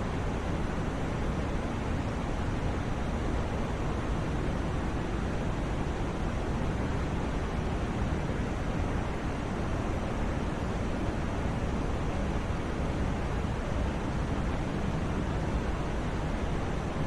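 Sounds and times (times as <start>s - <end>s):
white noise hiss: 0.0s - 17.0s.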